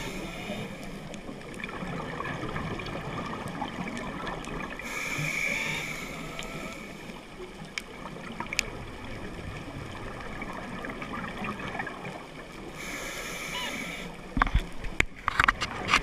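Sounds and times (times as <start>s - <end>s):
steady underwater rushing hiss: 0.0s - 16.0s.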